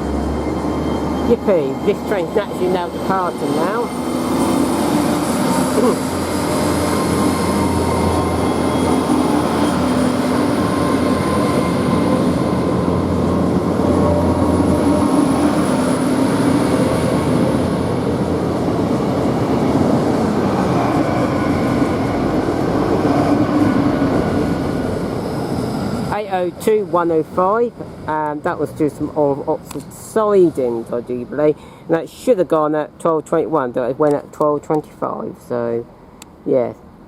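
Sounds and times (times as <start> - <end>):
diesel train engines running: 0.0 - 37.0.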